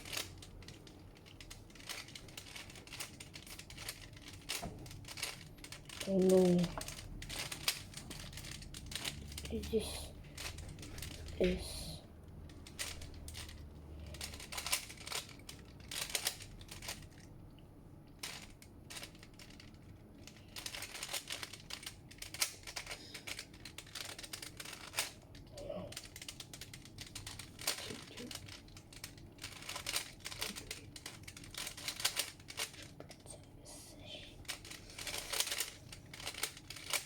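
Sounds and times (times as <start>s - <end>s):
plastic puzzle cube clicking: 0.0s - 11.8s, 12.4s - 17.3s, 18.1s - 25.2s, 25.9s - 32.9s, 34.4s - 37.0s.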